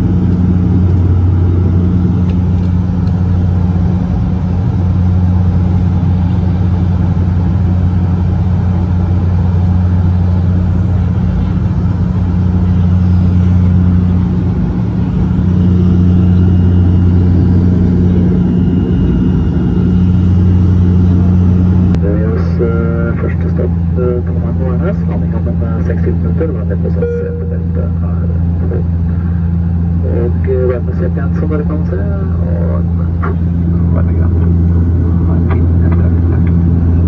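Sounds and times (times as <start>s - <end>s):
turboprop cabin drone: 0.0s - 37.0s.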